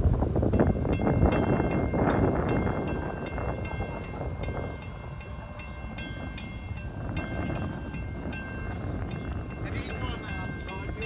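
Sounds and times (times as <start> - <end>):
level crossing bell ringing: 0.6 - 11.0.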